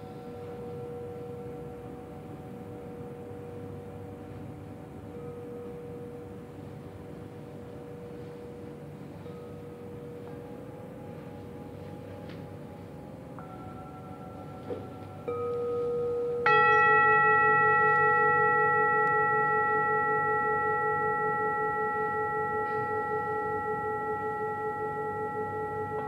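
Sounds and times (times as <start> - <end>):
metal singing bowls ringing: 0.0 - 26.0.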